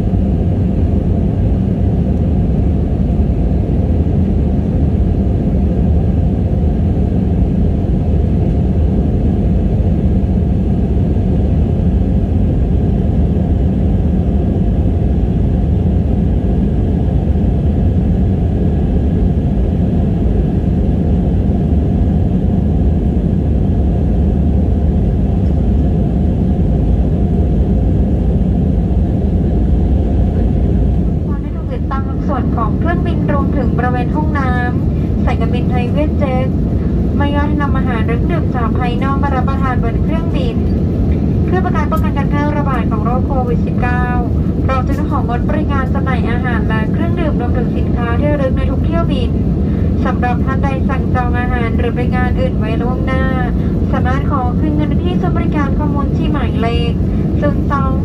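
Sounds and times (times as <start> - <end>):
faint steady whine: 0.0 - 58.0
jet engine cabin rumble: 0.0 - 58.0.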